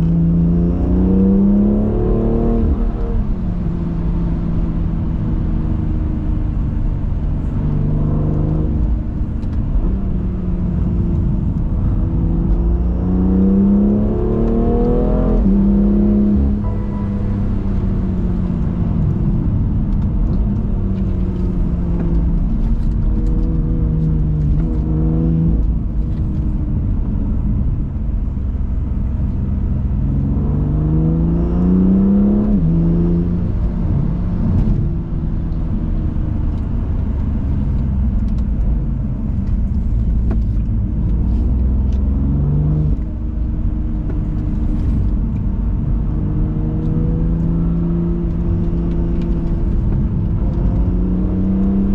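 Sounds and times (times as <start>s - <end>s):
car engine accelerating: 0.0s - 51.9s
road rumble: 0.0s - 51.9s.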